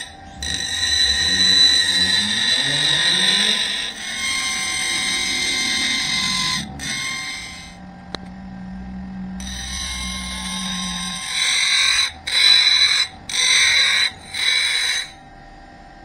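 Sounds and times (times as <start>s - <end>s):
hacksaw cutting metal pipe: 0.0s - 7.8s, 9.4s - 15.2s.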